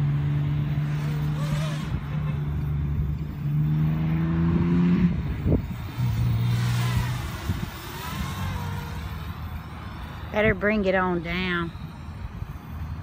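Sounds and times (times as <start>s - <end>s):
drone motors humming: 0.0s - 13.0s.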